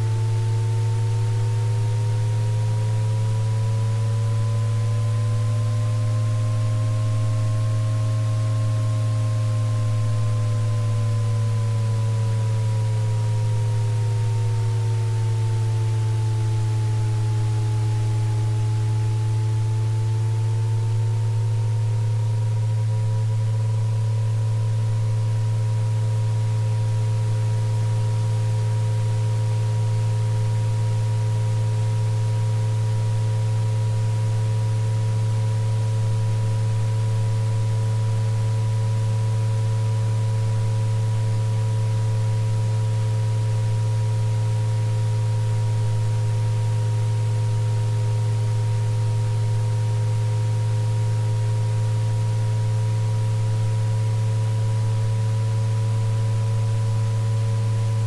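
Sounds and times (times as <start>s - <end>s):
low synthesized hum: 0.0s - 58.0s.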